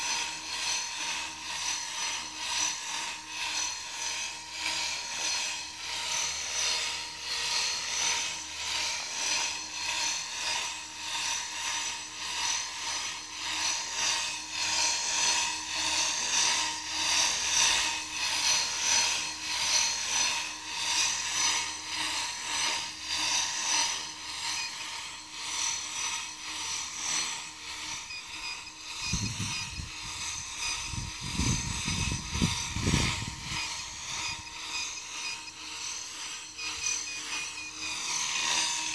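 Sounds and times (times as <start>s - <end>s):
model helicopter whirring whine: 0.0s - 38.9s.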